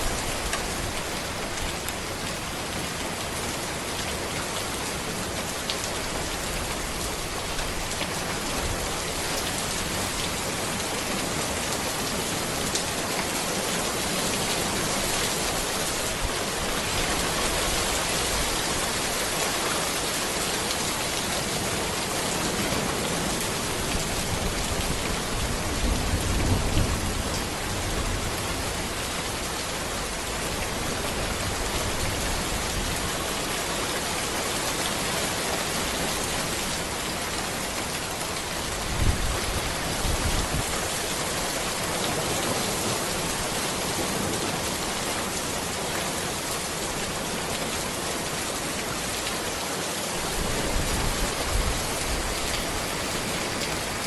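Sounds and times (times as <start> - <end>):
steady rain on road and trees: 0.0 - 54.0.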